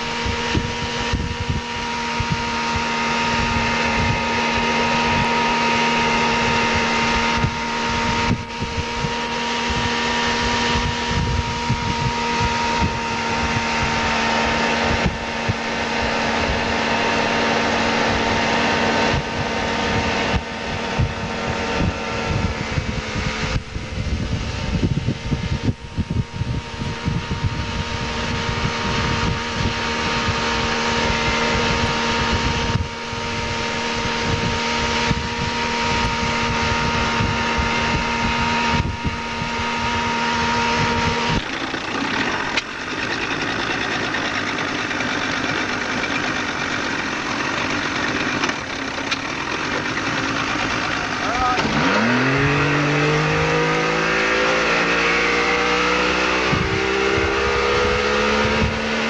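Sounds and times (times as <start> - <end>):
boat engine droning: 0.0 - 59.0
wind buffeting microphone: 0.0 - 59.0.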